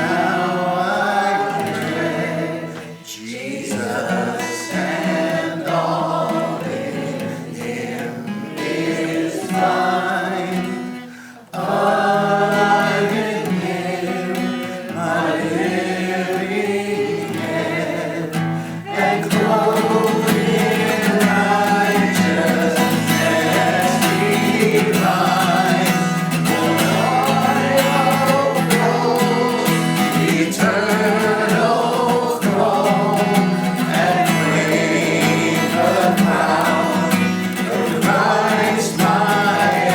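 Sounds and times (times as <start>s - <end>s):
group of voices singing: 0.0s - 39.9s
guitar accompaniment: 0.0s - 39.9s.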